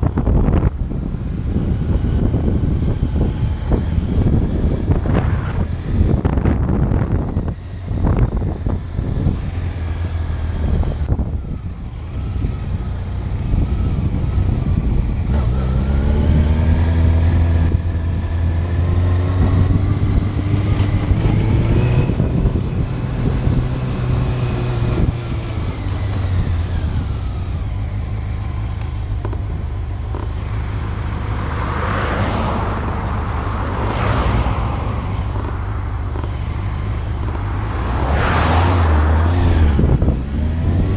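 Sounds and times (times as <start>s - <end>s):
motorcycle engine running: 0.0s - 31.9s, 34.6s - 40.9s
wind noise on microphone: 0.0s - 40.9s.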